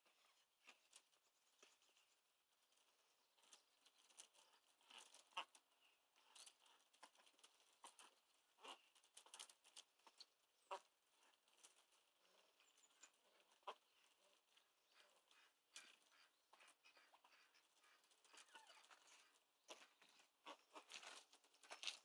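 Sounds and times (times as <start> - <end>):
ducks pecking in gravel: 0.0 - 22.0.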